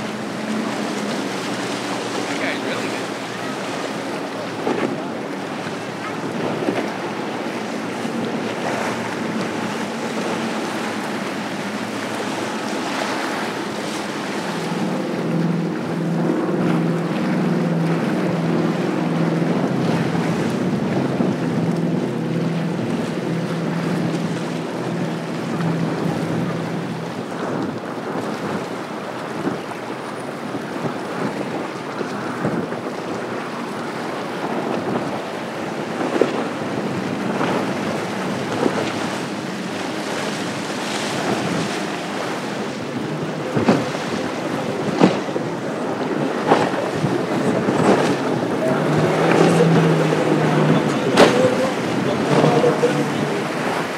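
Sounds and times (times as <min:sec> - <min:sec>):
outboard engines humming: 0:00.0 - 0:53.9
water rushing off hulls: 0:00.0 - 0:53.9
wind buffeting microphone: 0:00.0 - 0:53.9.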